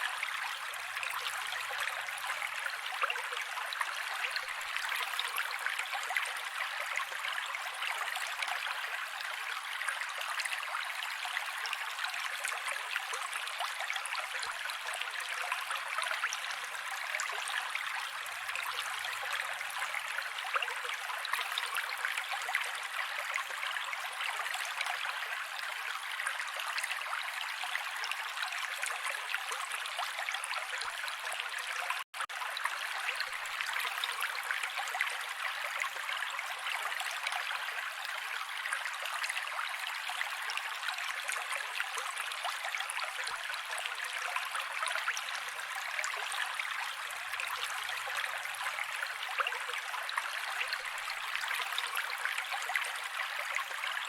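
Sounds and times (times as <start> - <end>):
creek babbling over rocks: 0.0 - 54.0.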